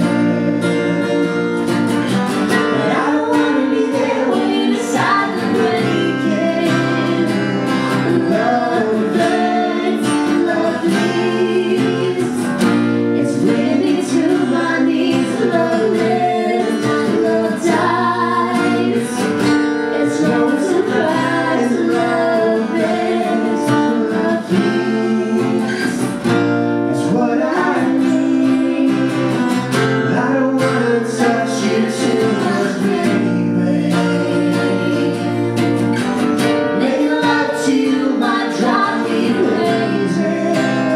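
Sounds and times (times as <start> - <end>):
man singing: 0.0 - 1.8, 2.5 - 26.3, 26.9 - 35.5, 36.4 - 40.9
acoustic guitar strumming: 0.0 - 40.9
woman singing along: 2.6 - 26.2, 30.6 - 35.6, 36.6 - 40.9.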